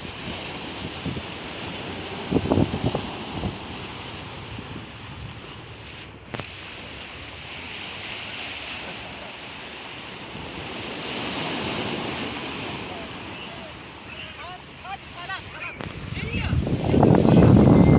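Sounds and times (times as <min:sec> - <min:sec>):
waves washing onto beach: 0:00.0 - 0:17.9
wind buffeting microphone: 0:00.0 - 0:17.9.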